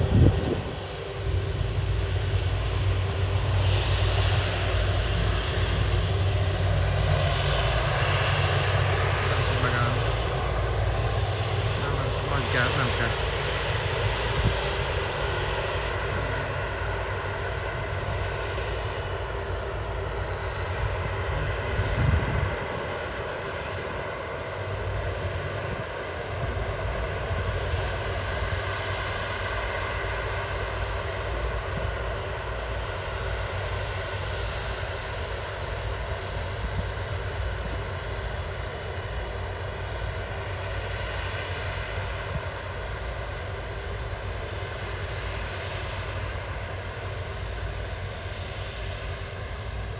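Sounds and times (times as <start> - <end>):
jet engines at takeoff power: 0.0 - 49.9.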